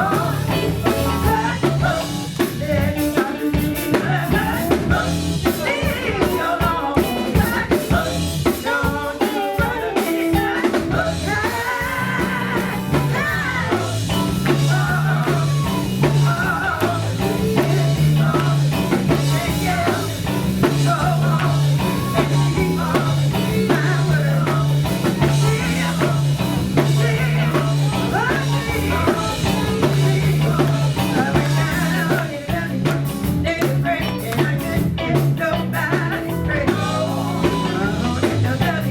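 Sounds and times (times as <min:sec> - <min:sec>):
electric bass: 0:00.0 - 0:09.1, 0:10.4 - 0:38.9
drum kit: 0:00.0 - 0:38.9
electric guitar: 0:00.0 - 0:38.9
person singing: 0:00.0 - 0:38.9.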